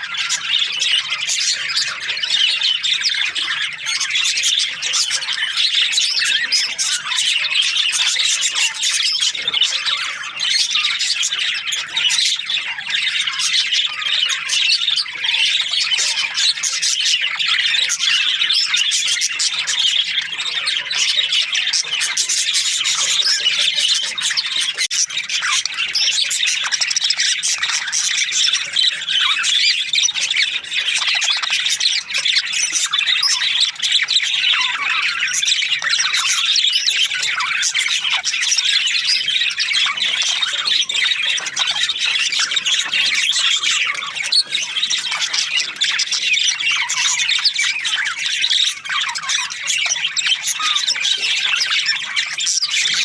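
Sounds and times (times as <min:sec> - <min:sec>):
budgerigars chattering and chirping: 0:00.0 - 0:53.0.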